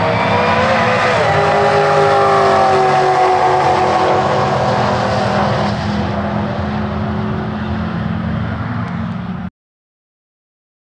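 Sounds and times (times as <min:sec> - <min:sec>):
car engine running hard: 0:00.0 - 0:09.5.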